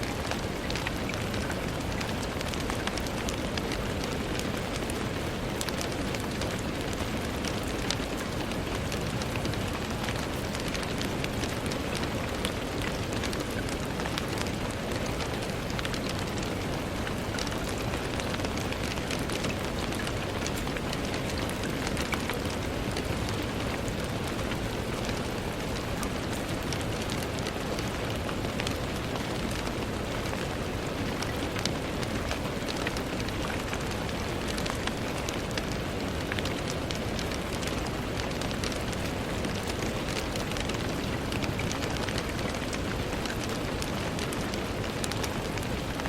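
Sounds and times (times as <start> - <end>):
rain on a window: 0.0 - 46.0.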